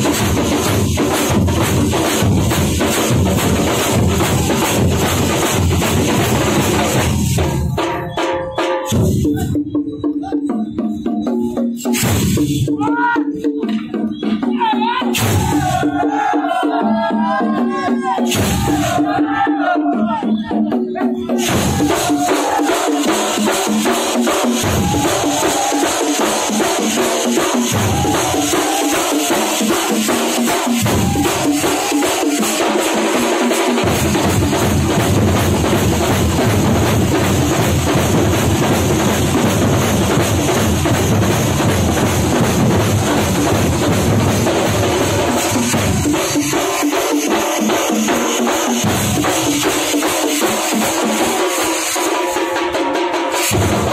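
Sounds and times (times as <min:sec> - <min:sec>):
fast loud drumming: 0:00.0 - 0:53.9.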